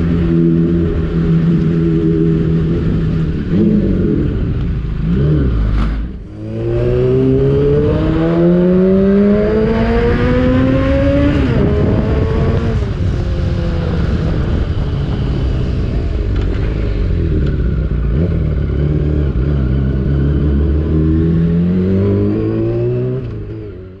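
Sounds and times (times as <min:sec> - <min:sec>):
loud sport bike engine revving: 0:00.0 - 0:14.6, 0:16.5 - 0:23.7.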